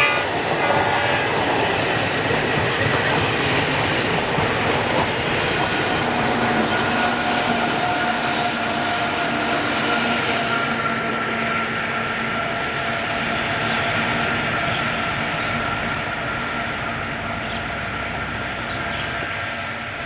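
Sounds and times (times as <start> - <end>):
train rumble: 0.0 - 20.0
train whine: 0.0 - 20.0.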